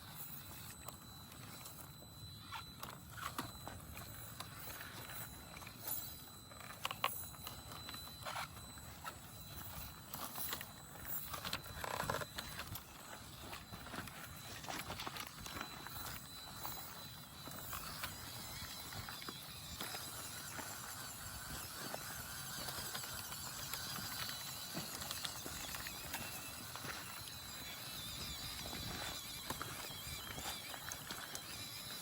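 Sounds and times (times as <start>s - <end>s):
toy car motor whine: 0.0s - 32.0s.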